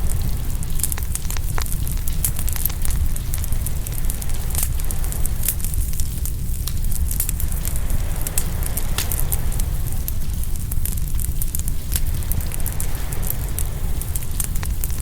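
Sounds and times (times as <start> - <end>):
open wood fire crackling: 0.0 - 15.0.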